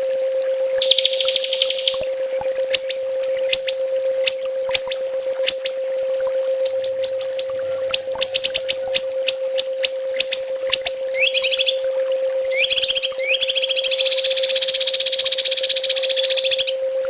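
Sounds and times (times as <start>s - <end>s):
steady low hum: 0.7s - 17.0s
songbird call bursts and trill: 0.8s - 2.0s, 2.7s - 5.8s, 6.6s - 11.8s, 12.5s - 16.8s.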